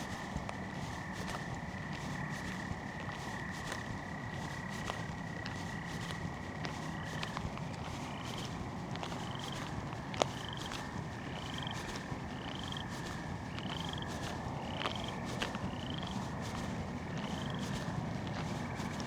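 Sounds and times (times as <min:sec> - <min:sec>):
distant frogs droning: 0:00.0 - 0:19.0.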